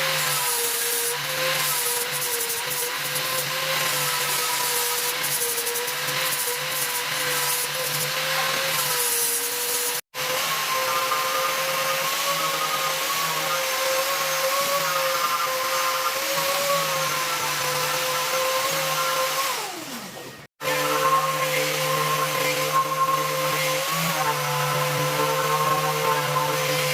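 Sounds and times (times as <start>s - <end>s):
power tool motor whining: 0.0s - 26.9s.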